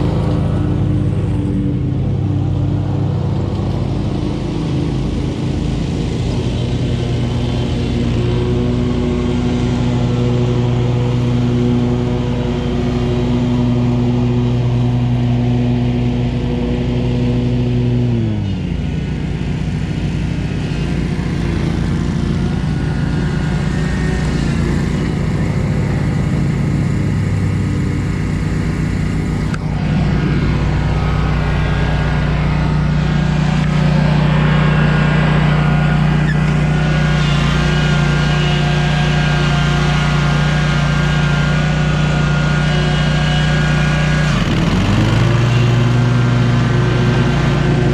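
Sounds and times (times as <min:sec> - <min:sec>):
mower engine running: 0:00.0 - 0:47.9.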